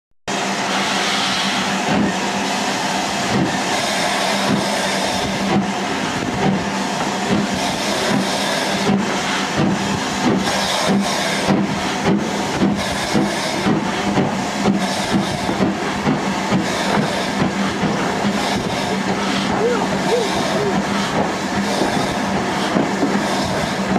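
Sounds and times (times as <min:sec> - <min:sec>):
steam hissing: 0:00.3 - 0:23.9
steam locomotive exhaust beats: 0:00.3 - 0:23.9.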